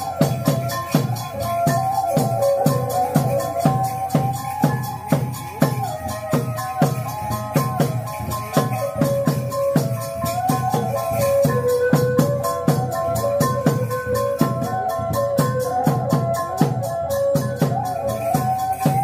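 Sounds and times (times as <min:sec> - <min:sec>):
held melody line: 0:00.0 - 0:19.0
jingling percussion: 0:00.0 - 0:19.0
steady drumbeat: 0:00.0 - 0:19.0.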